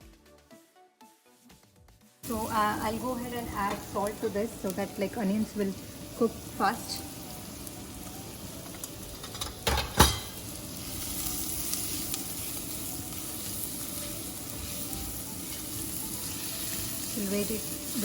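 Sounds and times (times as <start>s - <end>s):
onions sizzling in oil: 2.2s - 18.0s.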